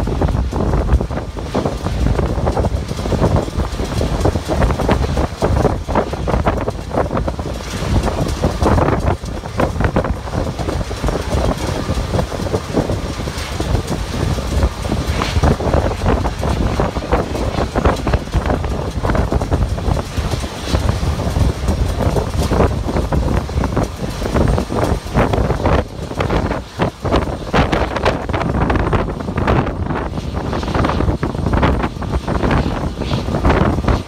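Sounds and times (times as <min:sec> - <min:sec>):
gusty wind buffeting microphone: 0:00.0 - 0:34.0
low background rumble: 0:00.0 - 0:34.0.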